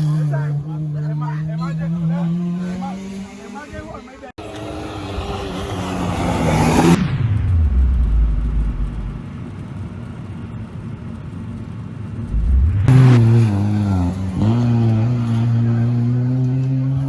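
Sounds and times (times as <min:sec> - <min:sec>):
rally car engine revving: 0:00.0 - 0:09.4, 0:12.3 - 0:17.0
rally car passing at full throttle: 0:00.0 - 0:09.8, 0:12.2 - 0:17.0.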